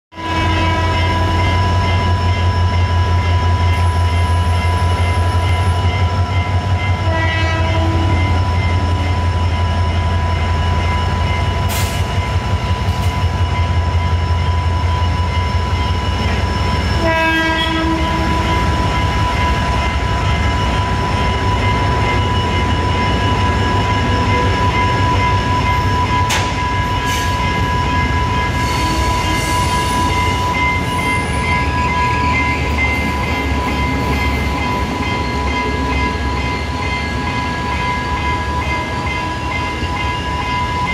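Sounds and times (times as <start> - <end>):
diesel locomotive engine throbbing: 0.2 - 40.9
train coaches rumbling over rails: 0.2 - 40.9
steady high-pitched tone: 7.8 - 40.9.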